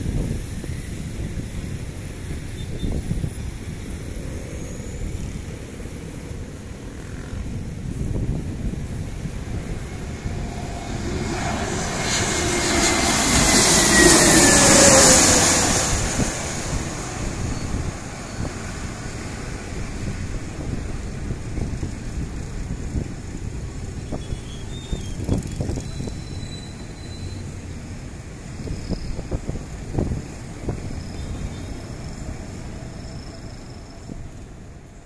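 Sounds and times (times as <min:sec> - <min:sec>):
jet engine whine: 0:00.0 - 0:35.0
low rumble of landing plane: 0:00.0 - 0:35.0.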